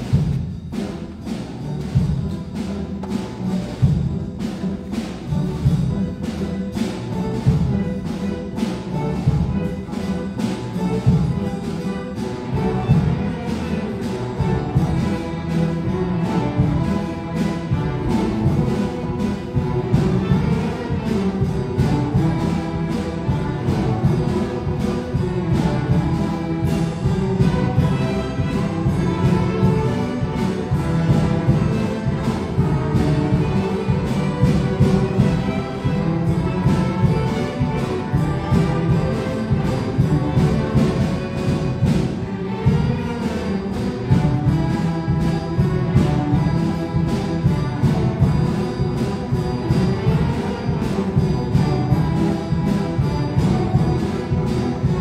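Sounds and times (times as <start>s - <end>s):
string orchestra playing: 0.0s - 55.0s.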